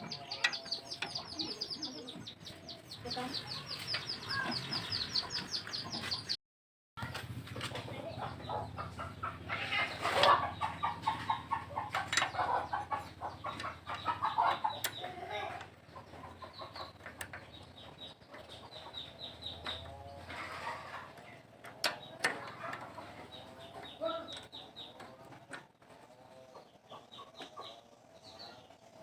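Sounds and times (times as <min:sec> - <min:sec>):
chickens clucking: 0:00.0 - 0:06.4, 0:07.0 - 0:29.0.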